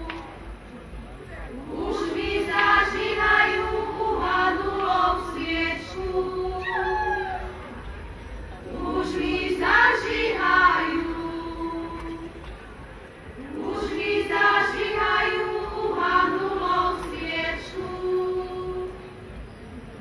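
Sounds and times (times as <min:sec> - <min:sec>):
women's choir singing folk song: 0:00.0 - 0:00.6, 0:01.5 - 0:08.0, 0:08.6 - 0:19.4.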